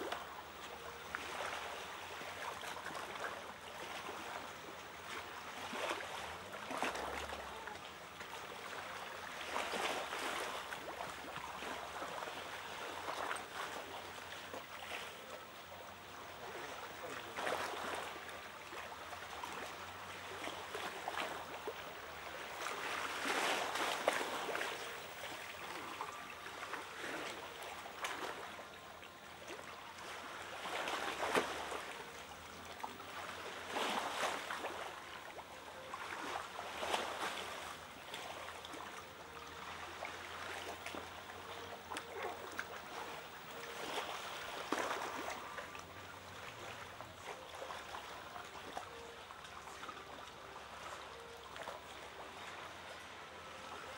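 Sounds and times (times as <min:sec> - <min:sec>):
water lapping in rock pool: 0:00.0 - 0:53.9.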